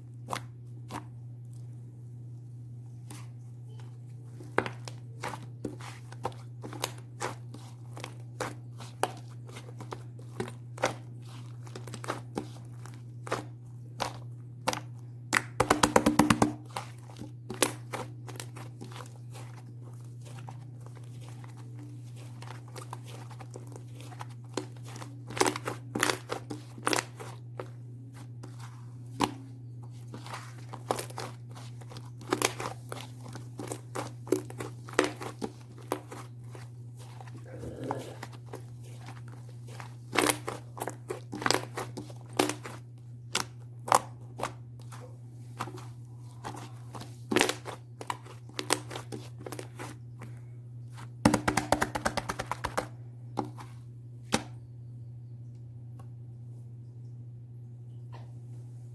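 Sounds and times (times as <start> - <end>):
steady low hum: 0.0 - 58.9
crinkling handling noises: 2.8 - 15.8, 16.5 - 54.5.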